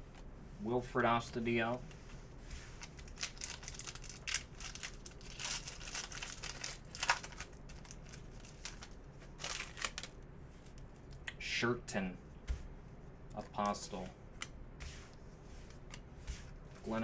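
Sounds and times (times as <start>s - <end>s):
trading cards flicking and rustling: 1.8s - 11.2s, 12.4s - 17.0s.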